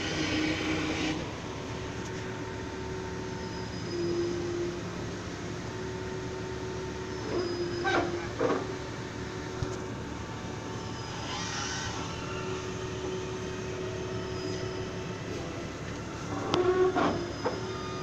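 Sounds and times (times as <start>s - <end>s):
forklift engine running: 0.0s - 18.0s
mechanical whine: 0.0s - 18.0s.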